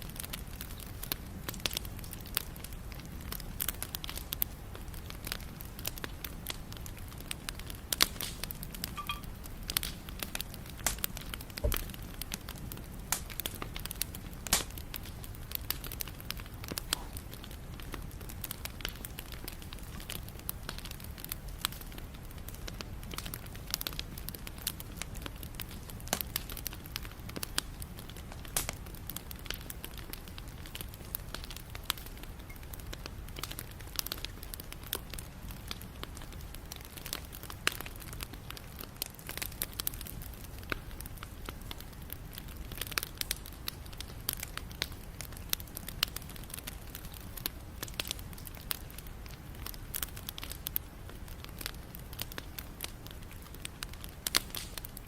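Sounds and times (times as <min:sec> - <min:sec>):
burning wood crackling and popping: 0:00.0 - 0:55.0
low rumble of flame: 0:00.0 - 0:55.0.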